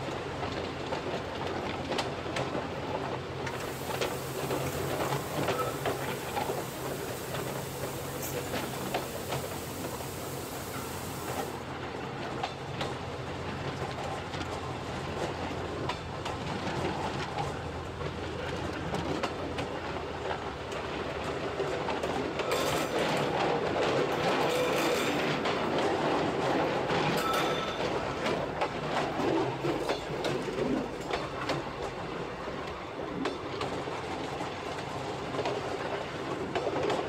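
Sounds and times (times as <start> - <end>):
train hum and rumble: 0.0 - 37.0
wheels clicking on track: 0.0 - 37.0.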